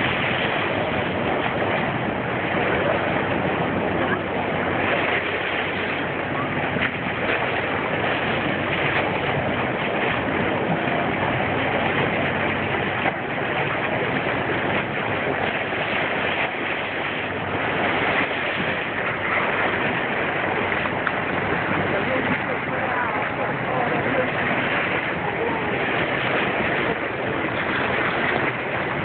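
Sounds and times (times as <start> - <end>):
boat running: 0.0 - 29.0
bow wave splashing along hull: 0.0 - 29.0.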